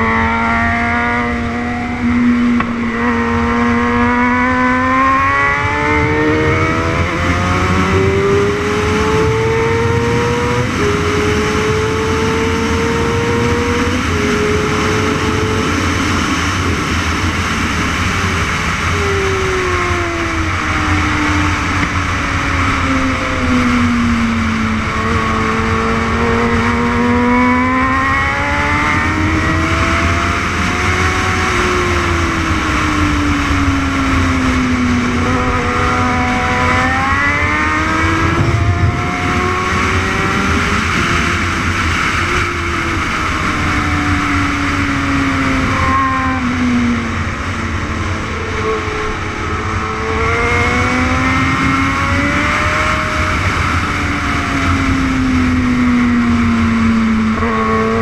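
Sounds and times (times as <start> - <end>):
motorcycle engine racing: 0.0 - 58.0
wind rush: 0.0 - 58.0.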